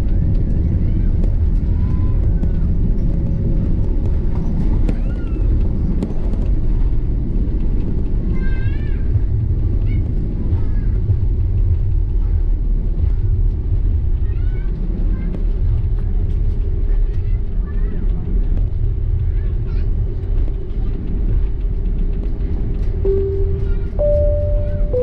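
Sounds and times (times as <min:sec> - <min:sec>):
aircraft cabin low rumble: 0:00.0 - 0:25.0
faint passenger voices: 0:00.0 - 0:25.0.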